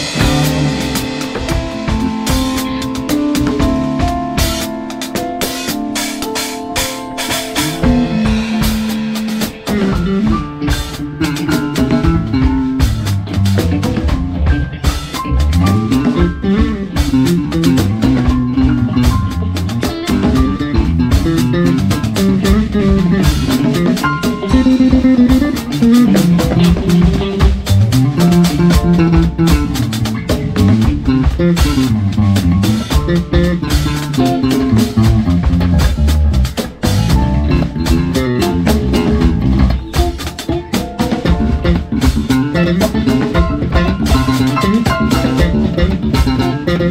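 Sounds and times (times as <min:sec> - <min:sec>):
bass line: 0:00.0 - 0:46.9
drum kit: 0:00.0 - 0:46.9
guitar: 0:00.0 - 0:46.9
live band playing: 0:00.0 - 0:46.9.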